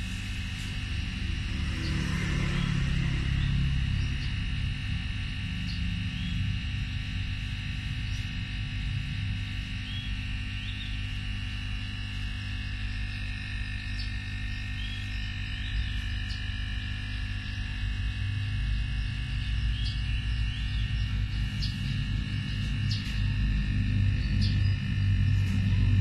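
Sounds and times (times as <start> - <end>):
electrical hum with high whine: 0.0 - 26.0.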